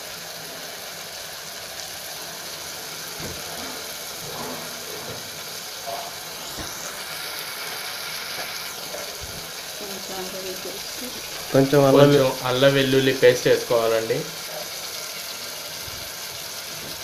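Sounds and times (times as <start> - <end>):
onions and tomatoes sizzling in oil: 0.0 - 17.0.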